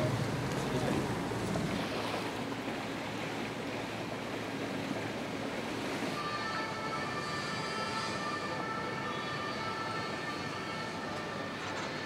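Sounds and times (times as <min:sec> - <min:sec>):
harbour water washing: 0:00.0 - 0:12.0.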